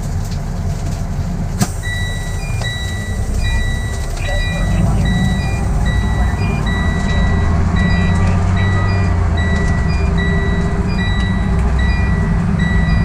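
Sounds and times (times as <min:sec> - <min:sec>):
diesel engine running: 0:00.0 - 0:13.0
electronic reversing beeps: 0:01.8 - 0:13.0.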